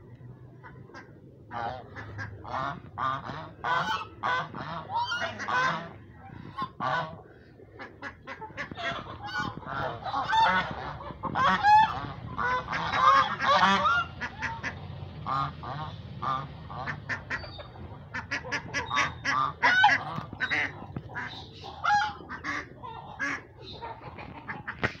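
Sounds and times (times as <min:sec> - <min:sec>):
ducks hissing and calling: 0:00.6 - 0:25.0.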